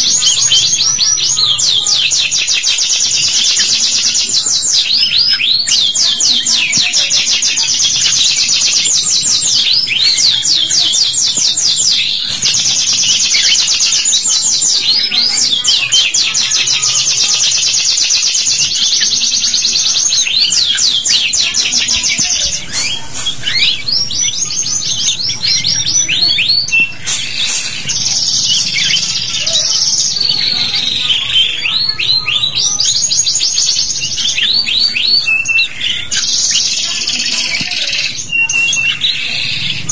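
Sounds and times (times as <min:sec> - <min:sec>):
bird chirps: 0:00.0 - 0:39.9
canaries trilling: 0:00.0 - 0:39.9.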